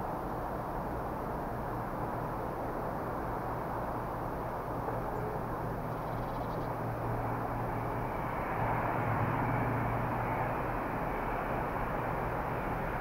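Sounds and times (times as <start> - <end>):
train diesel engine drone: 0.0 - 13.0.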